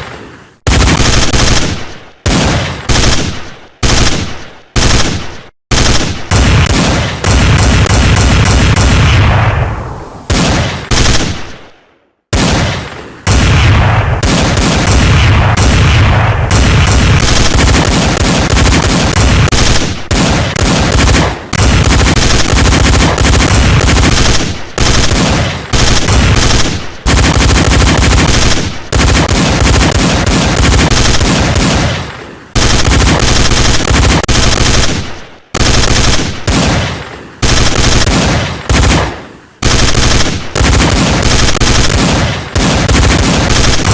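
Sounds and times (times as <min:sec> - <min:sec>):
machine-gun fire: 0:00.6 - 0:09.6, 0:10.3 - 0:43.9.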